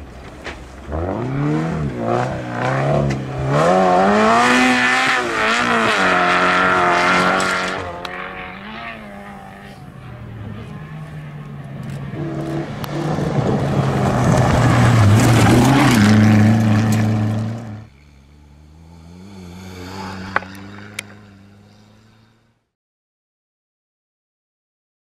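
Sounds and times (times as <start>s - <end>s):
rally car engine at high revs: 0.7s - 22.4s.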